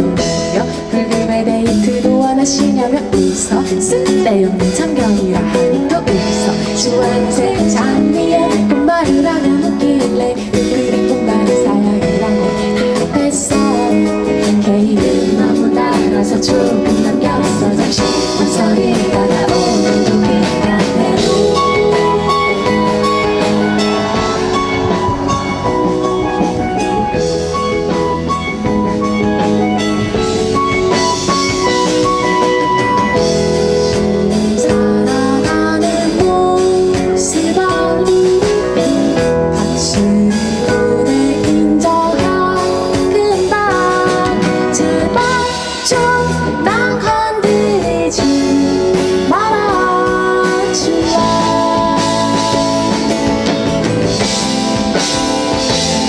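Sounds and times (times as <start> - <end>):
person singing: 0.0 - 29.0, 30.1 - 56.0
live pop band playing: 0.0 - 56.0.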